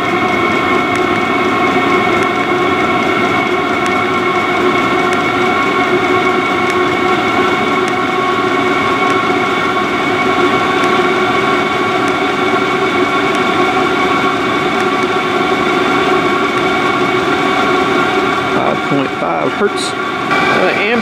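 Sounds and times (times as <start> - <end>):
air heater fan whirring: 0.0 - 21.0.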